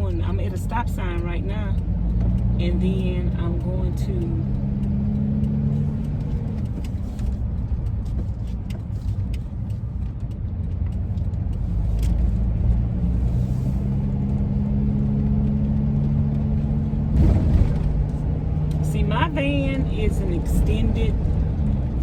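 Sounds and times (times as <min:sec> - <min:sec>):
van engine and road noise: 0:00.0 - 0:22.0.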